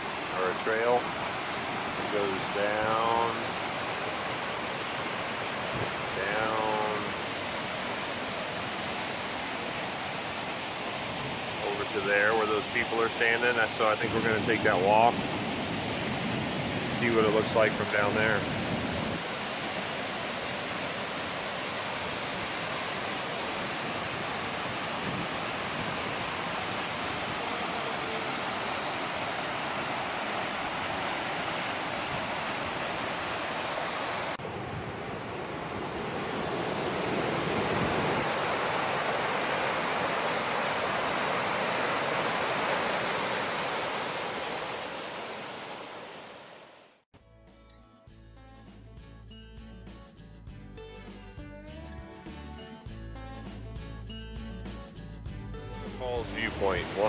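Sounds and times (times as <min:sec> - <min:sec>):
waterfall rushing: 0:00.0 - 0:46.8, 0:56.0 - 0:57.0.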